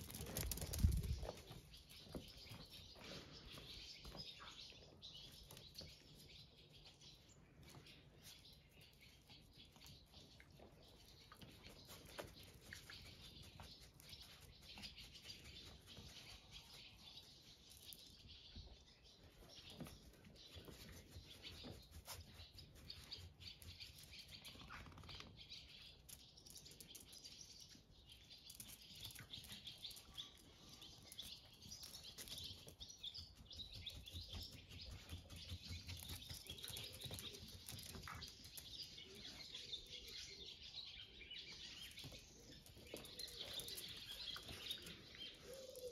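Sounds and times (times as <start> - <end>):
dog paws pattering on concrete: 0.0 - 45.9
faint birds chirping: 0.0 - 45.9.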